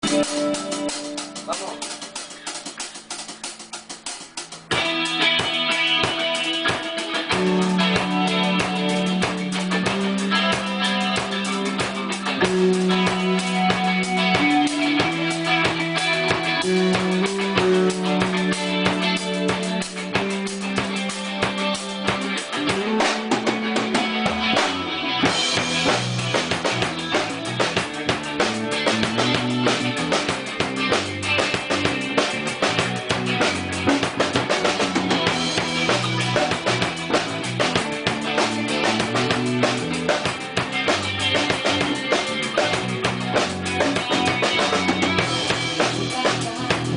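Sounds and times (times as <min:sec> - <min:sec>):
drum kit beat: 0:00.0 - 0:46.9
guitar: 0:00.0 - 0:46.9
rock band playing instrumental: 0:00.0 - 0:46.9
low bass notes: 0:07.2 - 0:46.9.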